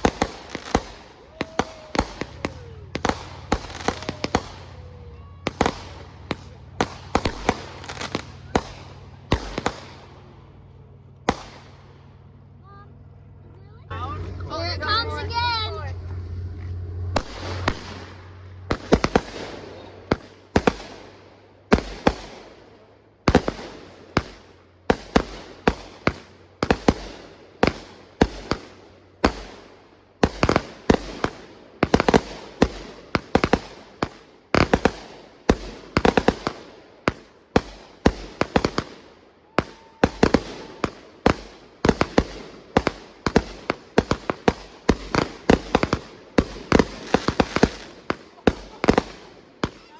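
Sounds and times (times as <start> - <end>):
fireworks bangs: 0.0 - 12.8, 13.8 - 49.9.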